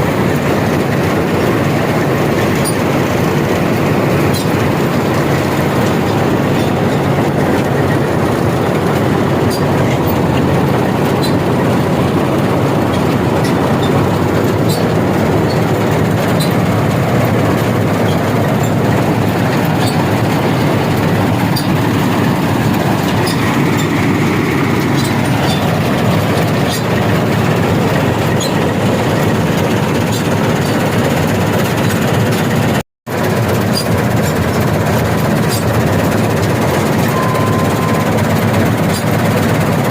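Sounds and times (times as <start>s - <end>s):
combine harvester rattling: 0.0s - 39.9s.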